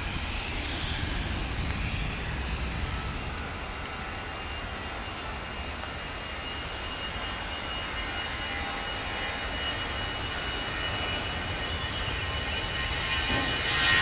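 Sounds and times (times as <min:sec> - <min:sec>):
jet engines on takeoff: 0:00.0 - 0:14.0.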